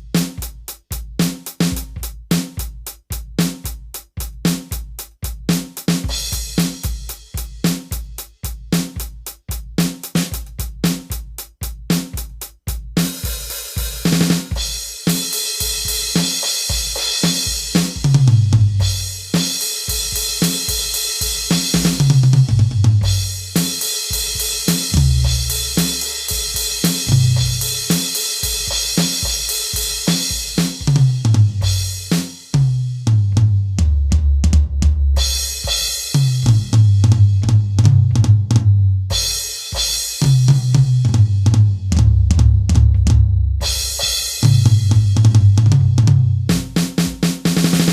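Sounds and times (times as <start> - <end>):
rock drum kit groove: 0.0 - 47.9.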